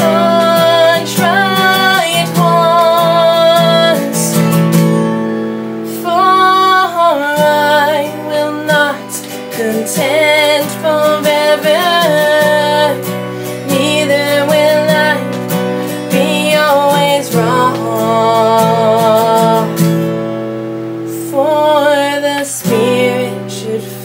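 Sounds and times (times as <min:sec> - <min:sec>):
woman singing: 0:00.0 - 0:04.8, 0:05.8 - 0:20.2, 0:21.0 - 0:24.0
acoustic guitar: 0:00.0 - 0:24.0.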